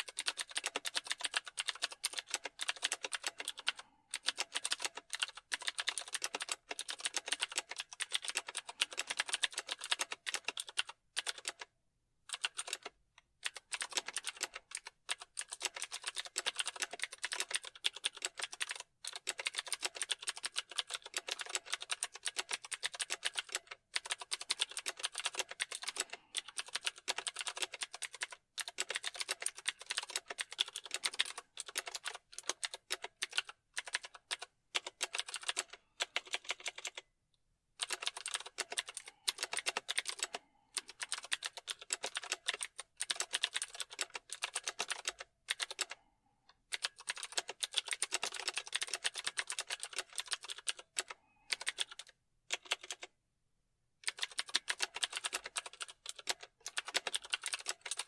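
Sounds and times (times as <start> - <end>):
fast typing on keyboard: 0.0 - 11.7, 12.3 - 37.0, 37.8 - 53.2, 54.0 - 58.0.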